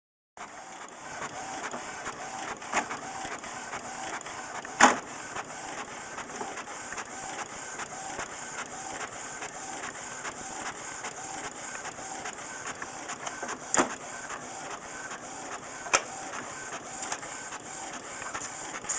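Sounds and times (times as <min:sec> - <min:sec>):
printer mechanism whirring: 0:00.4 - 0:18.9.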